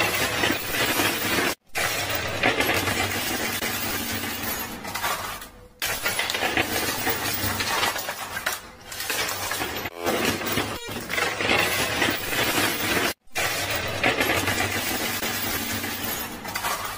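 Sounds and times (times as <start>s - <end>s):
chips and coins clattering: 0.0s - 16.9s.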